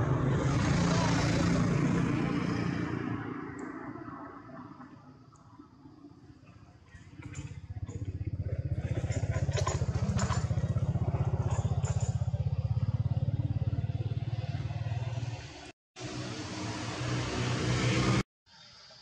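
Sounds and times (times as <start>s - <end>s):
engine rumbling: 0.0s - 18.2s.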